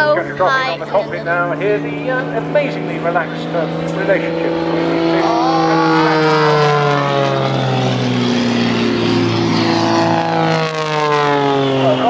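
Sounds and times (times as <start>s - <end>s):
propeller planes flying past: 0.0s - 12.0s.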